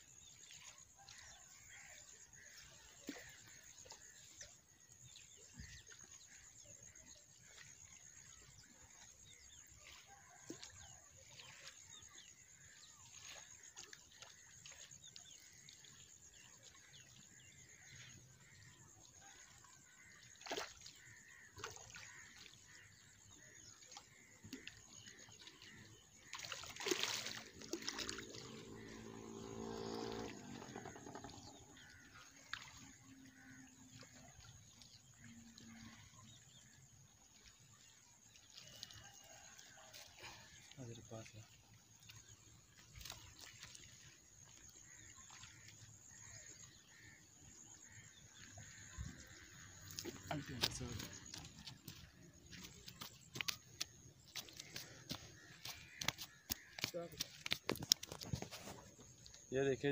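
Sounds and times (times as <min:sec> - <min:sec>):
water sloshing and splashing: 0:00.0 - 0:59.9.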